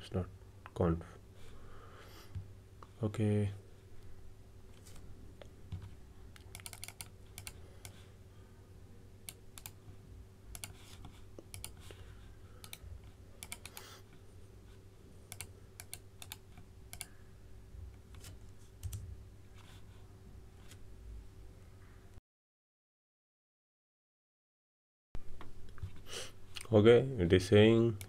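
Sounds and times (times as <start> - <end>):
faint steady hum: 0.0 - 22.2, 25.2 - 28.0.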